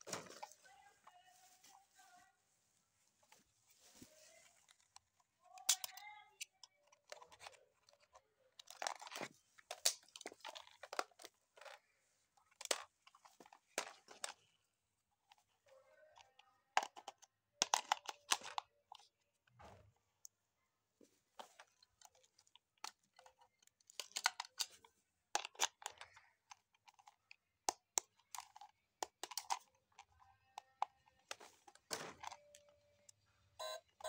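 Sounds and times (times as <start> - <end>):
plastic and cardboard being handled: 0.0 - 20.0, 20.8 - 33.8.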